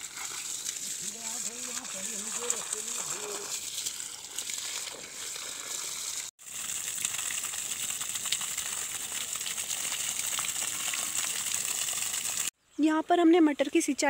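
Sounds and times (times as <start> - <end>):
hose water spraying on plants: 0.0 - 12.5.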